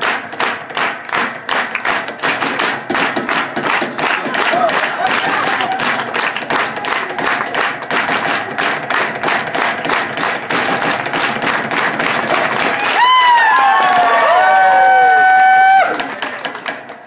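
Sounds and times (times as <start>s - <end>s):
rhythmic hand clapping: 0.0s - 17.0s.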